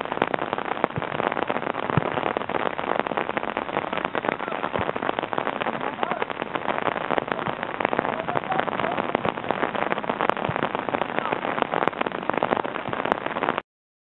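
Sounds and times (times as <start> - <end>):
microphone crackling: 0.0 - 13.6.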